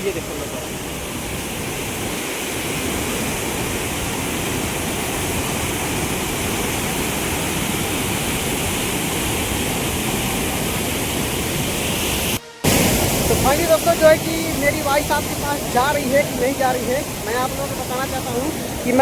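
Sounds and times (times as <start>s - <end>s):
floodwater rushing through dam gates: 0.0s - 19.0s.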